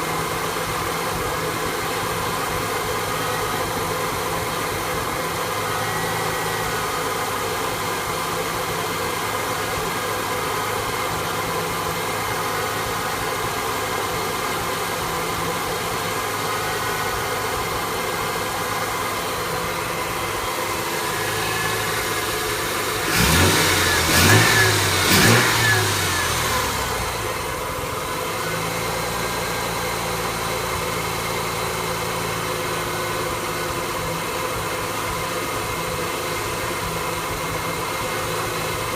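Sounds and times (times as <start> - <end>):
engine throttle revs: 0.0 - 38.9
pickup engine idling rough: 0.0 - 38.9.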